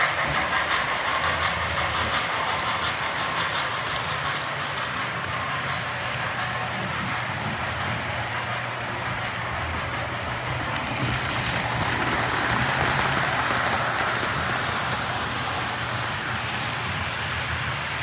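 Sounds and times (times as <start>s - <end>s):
model train wheels and motors rumbling: 0.0s - 18.0s.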